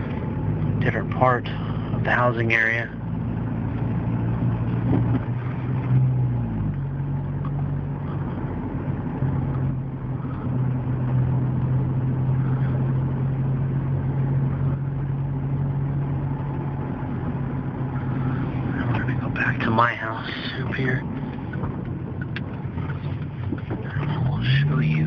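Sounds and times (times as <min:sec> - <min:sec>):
car engine: 0:00.0 - 0:25.0
road noise: 0:00.0 - 0:25.0.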